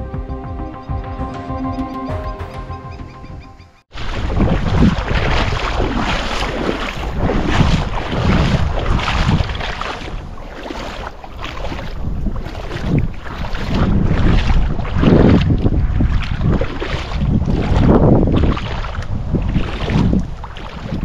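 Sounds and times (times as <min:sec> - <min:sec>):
wind buffeting microphone: 0:03.2 - 0:21.0.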